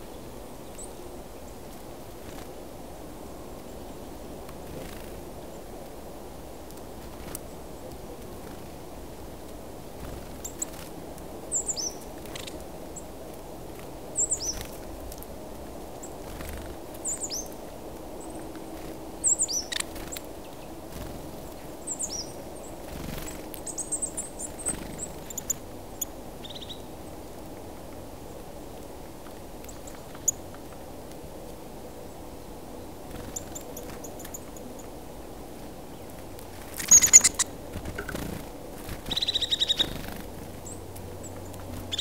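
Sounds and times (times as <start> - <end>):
steady low background noise: 0.0 - 42.0
songbirds calling: 6.5 - 42.0.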